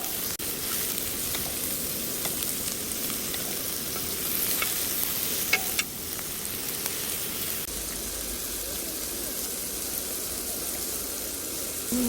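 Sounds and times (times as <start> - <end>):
meat sizzling: 0.0 - 12.0.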